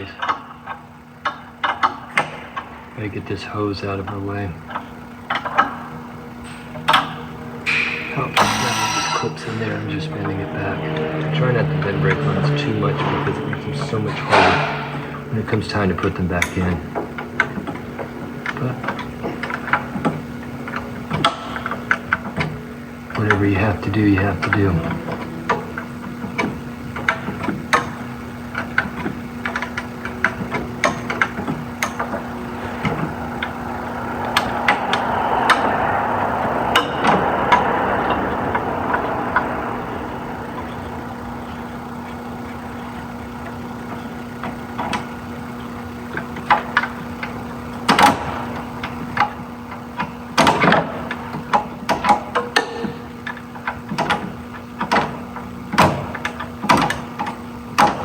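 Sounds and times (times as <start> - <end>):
rushing noise: 0.0 - 53.9
steady low hum: 0.0 - 58.0.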